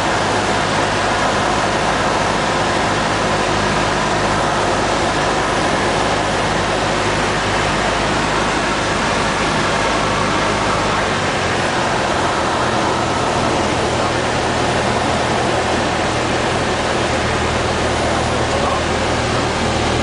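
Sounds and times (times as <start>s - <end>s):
airplane engine and propeller: 0.0s - 20.0s.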